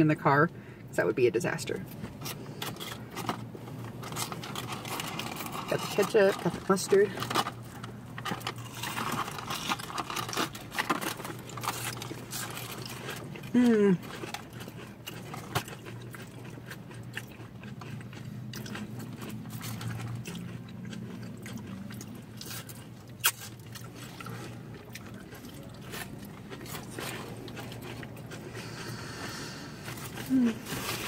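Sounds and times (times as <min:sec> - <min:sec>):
chewing crispy food: 0:01.8 - 0:31.0.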